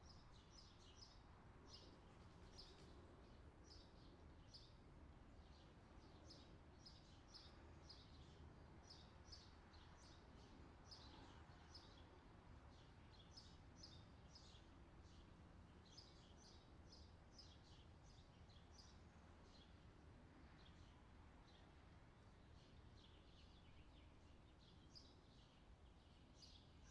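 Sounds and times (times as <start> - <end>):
small birds chirping: 5.4 - 26.9.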